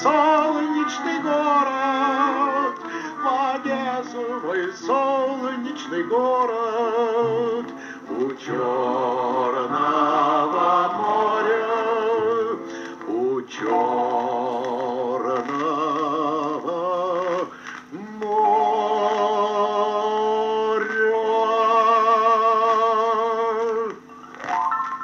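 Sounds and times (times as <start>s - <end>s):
gramophone record of sung song: 0.0s - 25.0s.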